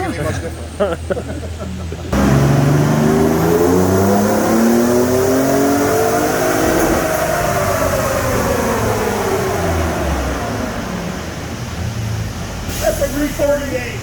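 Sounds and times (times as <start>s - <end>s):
truck engine revving on dyno: 2.1s - 13.4s.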